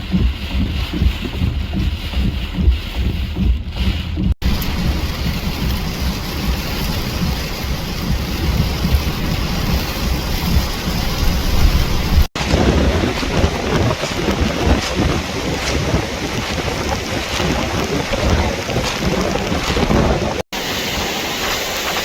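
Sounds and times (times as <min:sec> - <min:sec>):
rain: 0:00.0 - 0:22.0
surf: 0:00.0 - 0:22.0
wind buffeting microphone: 0:00.0 - 0:22.0.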